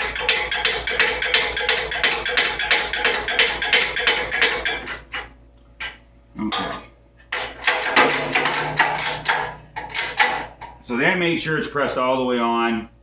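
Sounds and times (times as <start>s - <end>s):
metallic clicking and clanking: 0.0s - 10.8s.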